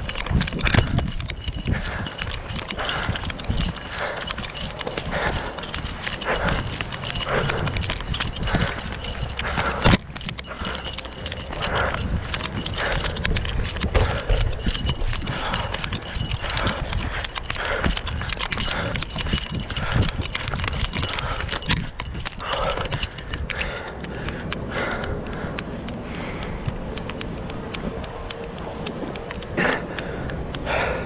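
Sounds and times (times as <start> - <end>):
footsteps on concrete: 0.0 - 30.7.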